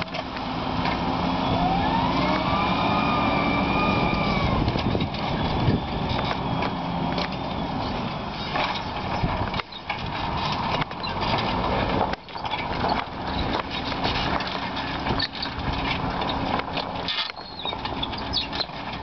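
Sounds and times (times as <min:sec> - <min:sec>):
plough rushing through soil: 0:00.0 - 0:19.0
tractor diesel engine under load: 0:00.0 - 0:19.0
irregular clatter: 0:03.8 - 0:19.0.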